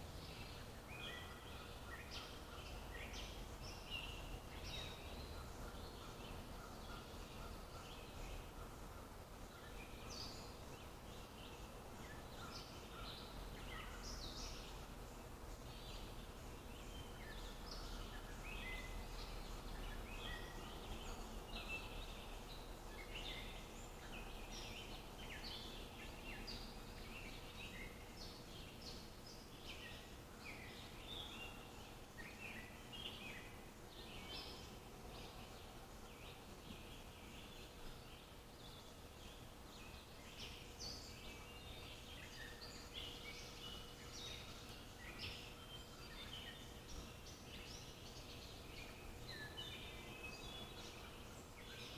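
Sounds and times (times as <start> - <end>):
faint low hum: 0.0 - 51.9
small birds chirping: 0.0 - 51.9.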